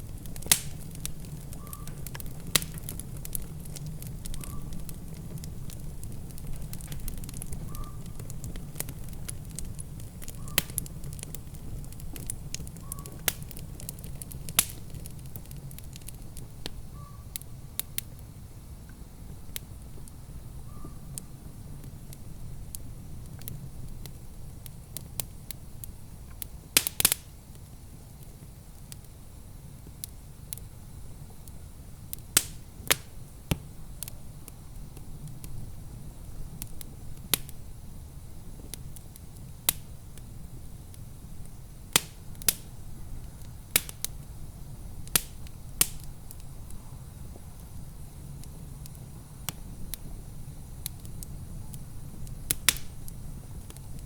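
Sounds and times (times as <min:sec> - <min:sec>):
low rumble of burning fire: 0:00.0 - 0:54.0
wood fire crackling and popping: 0:00.0 - 0:54.0.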